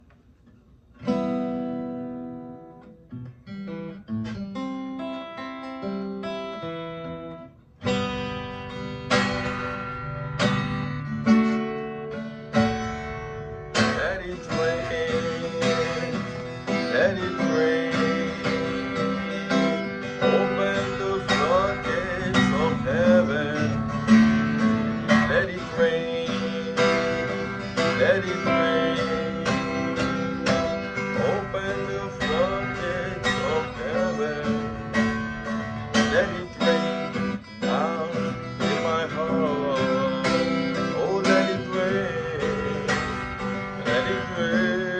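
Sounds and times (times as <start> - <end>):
plucked acoustic guitar music: 0.0 - 44.9.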